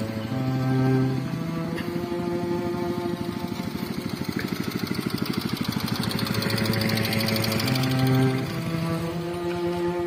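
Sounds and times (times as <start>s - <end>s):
small engine running: 0.0s - 10.0s
sustained background music: 0.0s - 10.0s.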